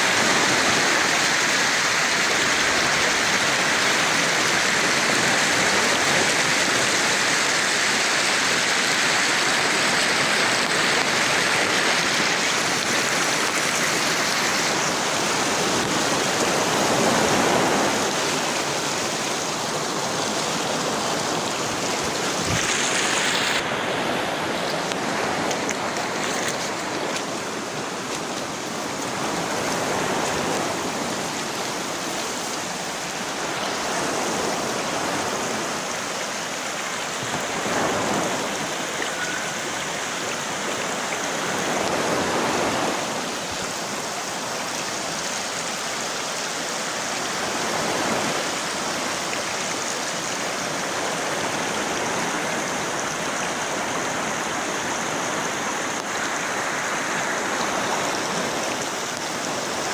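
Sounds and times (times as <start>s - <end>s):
water rushing over a waterfall: 0.0s - 59.9s.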